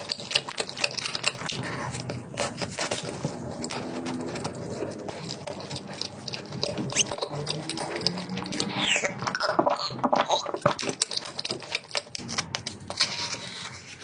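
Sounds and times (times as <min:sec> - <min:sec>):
crackly chewing and mouth clicks: 0:00.0 - 0:14.0.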